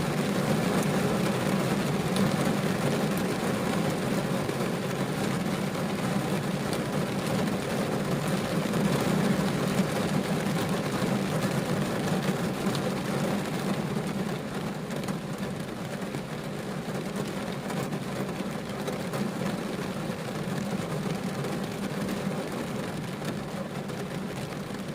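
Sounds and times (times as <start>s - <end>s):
rain on a car roof: 0.0s - 24.9s.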